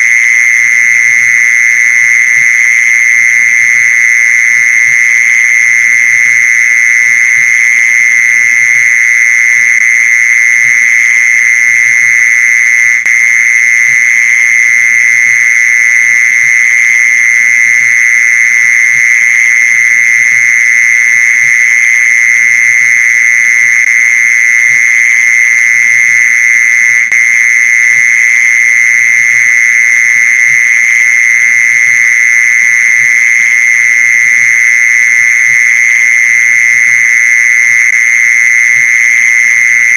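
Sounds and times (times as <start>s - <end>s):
mole cricket trilling: 0.0s - 39.9s.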